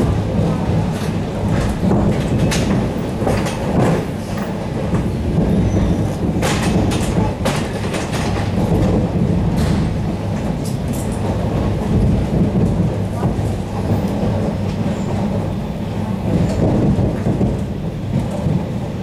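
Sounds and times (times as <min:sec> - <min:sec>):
train running gear rumble: 0:00.0 - 0:19.0
wheels clacking over rail joints: 0:00.0 - 0:19.0.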